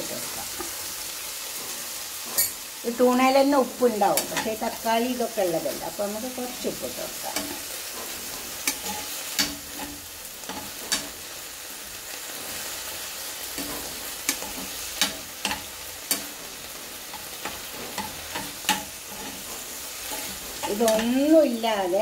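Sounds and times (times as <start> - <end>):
food sizzling in a pan: 0.0 - 22.0
spatula scraping a pan: 0.1 - 22.0.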